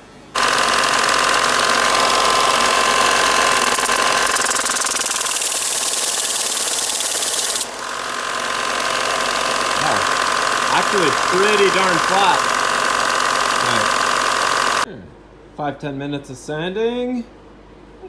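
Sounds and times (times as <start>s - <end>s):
belt grinder grinding steel: 0.4s - 14.8s
grinder motor running: 0.4s - 14.9s.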